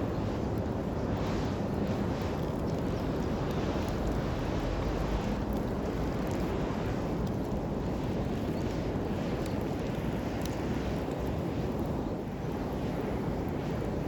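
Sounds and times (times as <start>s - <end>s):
campfire burning low rumble: 0.0s - 14.0s
faint fire crackles: 0.0s - 14.0s.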